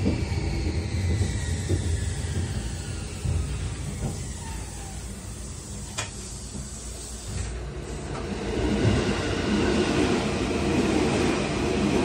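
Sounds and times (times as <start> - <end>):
train running on track: 0.0 - 12.0.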